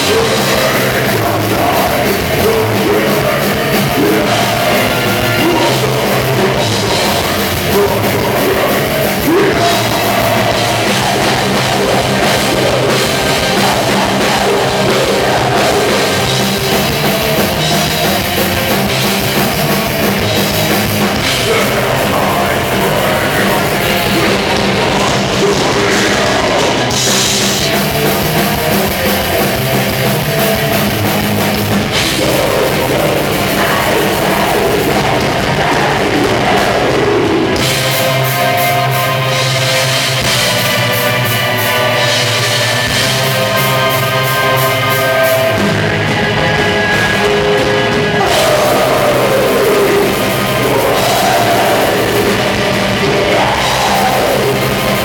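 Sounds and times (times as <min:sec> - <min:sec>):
distorted guitar: 0:00.0 - 0:55.0
drum kit: 0:00.0 - 0:55.0
metal vocals: 0:00.0 - 0:55.0.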